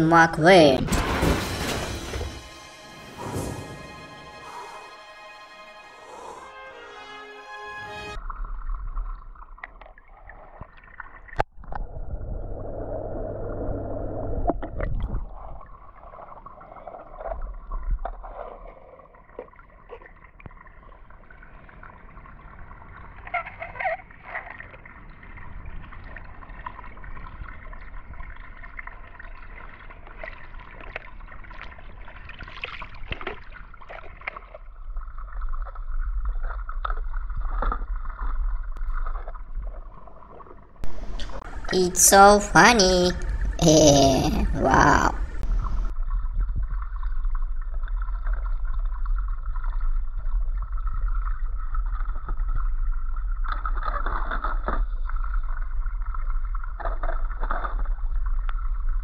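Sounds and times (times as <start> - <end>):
pool water gurgling and sloshing: 7.8 - 59.0.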